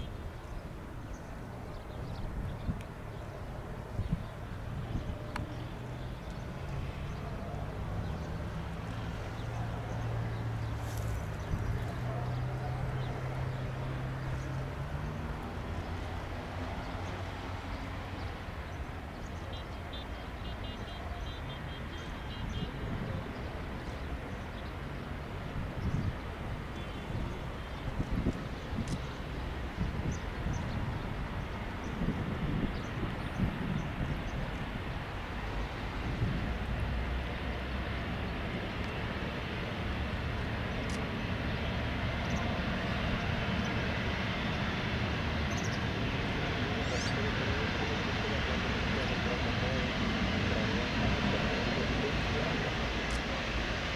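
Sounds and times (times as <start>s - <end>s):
jet engines rumbling: 0.1s - 20.4s, 21.8s - 53.9s.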